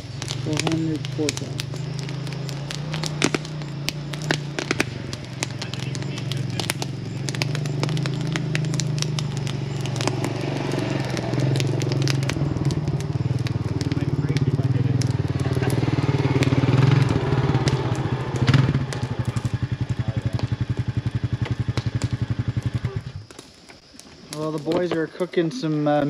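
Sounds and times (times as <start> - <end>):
quad engine idling: 0.0 - 23.1
campfire crackling and popping: 0.0 - 26.0.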